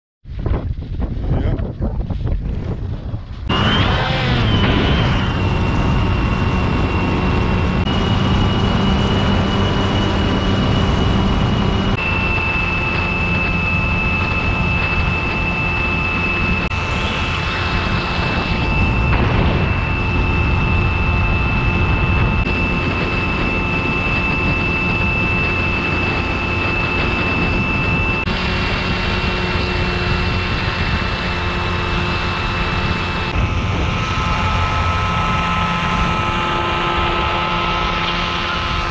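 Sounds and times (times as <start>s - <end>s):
wind rush: 0.2s - 38.9s
electric motor and propeller whining: 2.1s - 38.9s.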